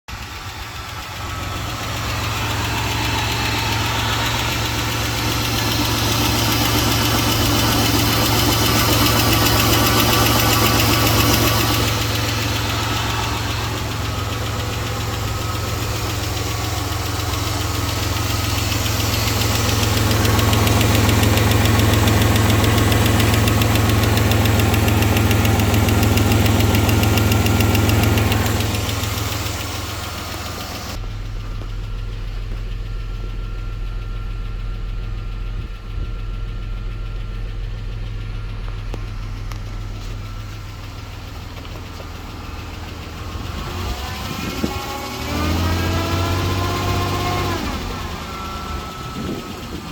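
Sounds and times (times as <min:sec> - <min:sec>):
car engine running: 0:00.0 - 0:49.9.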